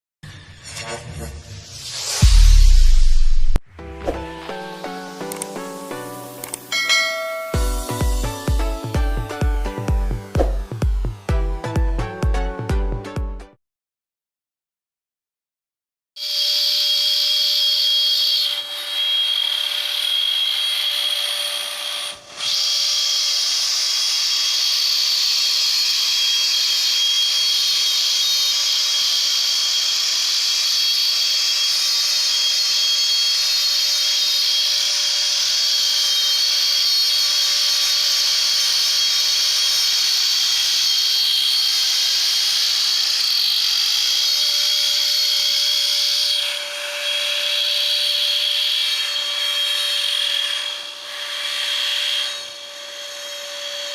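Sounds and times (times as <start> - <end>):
router spindle whining cutting wood: 4.2 - 6.8, 7.4 - 12.2, 16.2 - 53.9.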